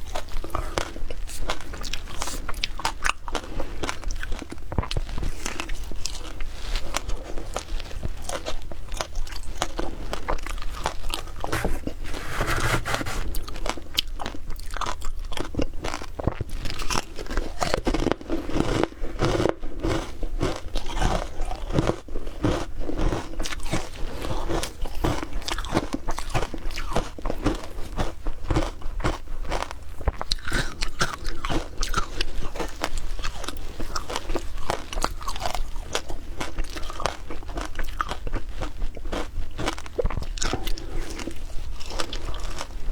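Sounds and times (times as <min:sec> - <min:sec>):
chewing crunchy ice: 0:00.0 - 0:42.9.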